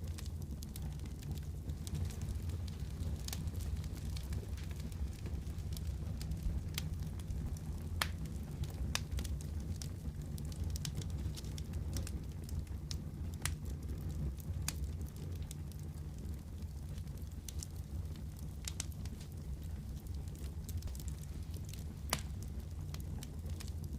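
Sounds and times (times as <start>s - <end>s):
fireplace fire crackling: 0.0s - 23.9s.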